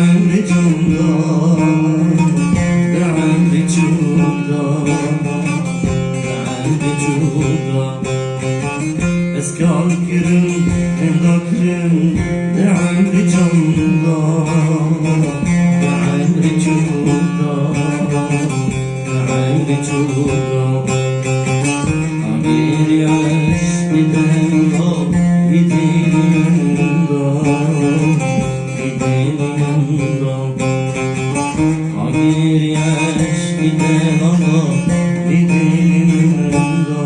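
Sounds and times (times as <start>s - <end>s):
man singing folk song: 0.0s - 37.0s
plucked string instrument: 0.0s - 37.0s.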